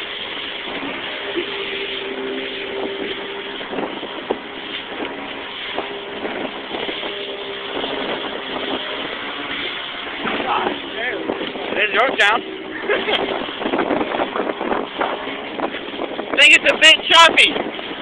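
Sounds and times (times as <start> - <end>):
motorboat engine humming: 0.0 - 18.0
water noise: 0.0 - 18.0
wind: 0.0 - 18.0.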